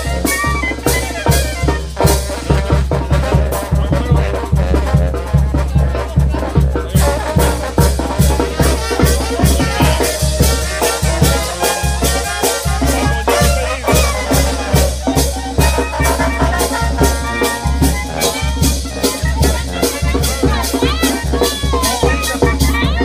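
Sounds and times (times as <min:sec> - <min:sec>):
brass band playing: 0:00.0 - 0:23.0
quick drum beat: 0:00.0 - 0:23.0
sousaphone bass line: 0:00.0 - 0:23.0.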